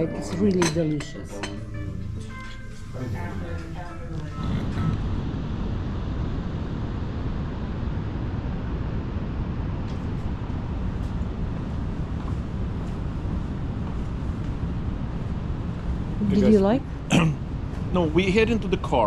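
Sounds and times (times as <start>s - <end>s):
low rumbling noise: 0.0s - 19.0s.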